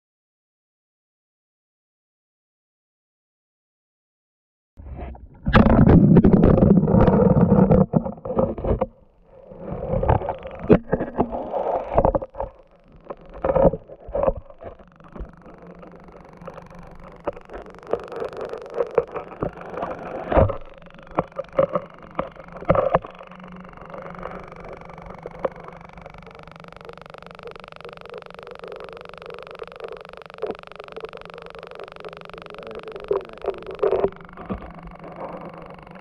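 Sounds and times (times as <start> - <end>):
faint ticks: 6.4 - 36.0.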